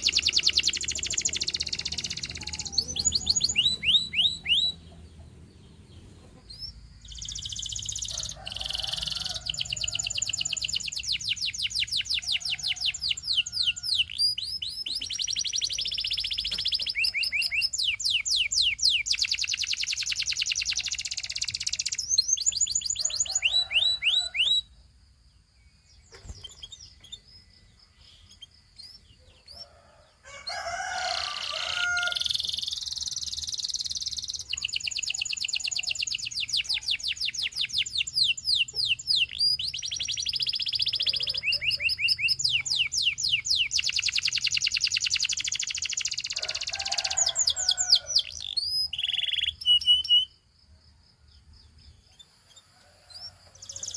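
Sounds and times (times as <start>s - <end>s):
canary singing trills: 0.0s - 24.8s, 25.6s - 50.5s, 51.4s - 53.9s.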